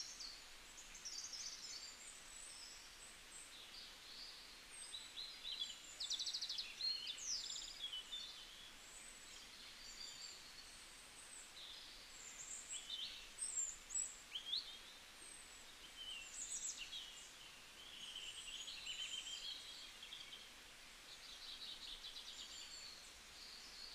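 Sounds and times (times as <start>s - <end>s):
birds singing: 0.0s - 10.8s, 11.4s - 23.9s
faint outdoor hiss: 0.0s - 23.9s.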